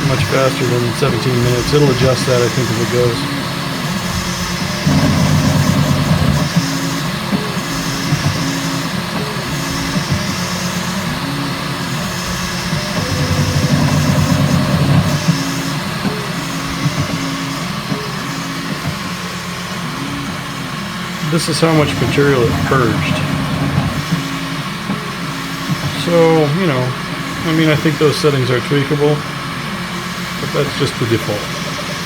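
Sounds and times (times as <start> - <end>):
steady hiss: 0.0 - 32.0
stepper motors whining: 0.0 - 32.0.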